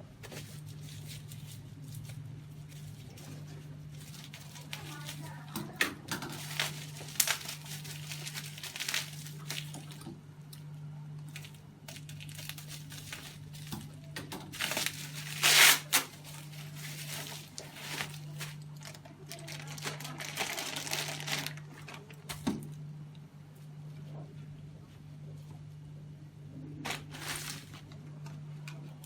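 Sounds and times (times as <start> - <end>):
plastic parts and tubing rustling: 0.0 - 10.6, 11.2 - 22.8, 26.8 - 29.0.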